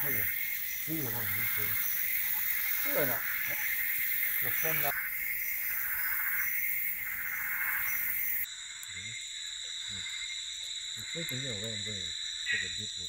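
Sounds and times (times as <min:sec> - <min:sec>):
loud insect chorus buzzing: 0:00.0 - 0:13.0
quieter insect chorus: 0:00.0 - 0:13.0.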